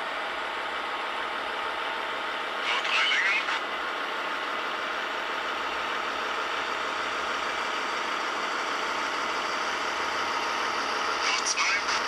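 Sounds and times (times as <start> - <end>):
diesel engine sound from small speaker: 0.0 - 12.0.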